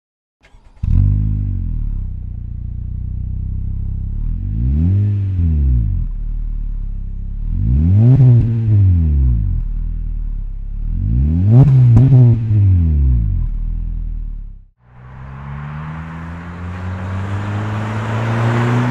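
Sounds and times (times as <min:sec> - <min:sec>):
car engine idling and revving: 0:00.4 - 0:18.9.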